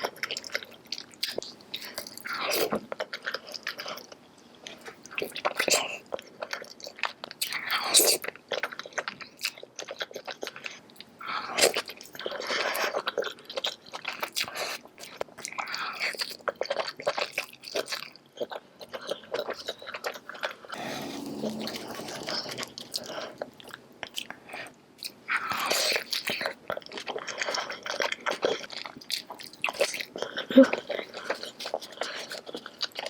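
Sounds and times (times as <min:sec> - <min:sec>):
food crunching: 0:00.0 - 0:33.0
person chewing wet food: 0:00.0 - 0:33.0.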